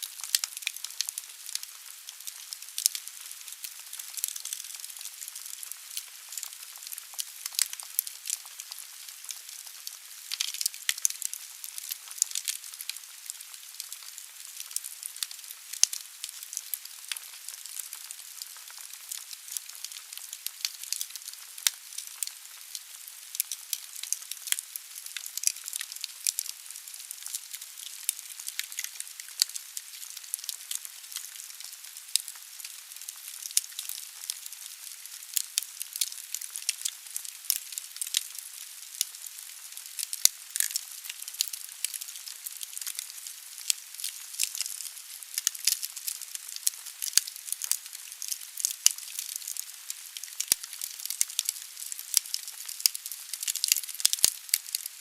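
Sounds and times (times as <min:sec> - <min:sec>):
wood fire crackling and popping: 0:00.0 - 0:22.7, 0:25.3 - 0:26.6, 0:27.5 - 0:34.5, 0:35.4 - 0:49.5, 0:50.2 - 0:54.7.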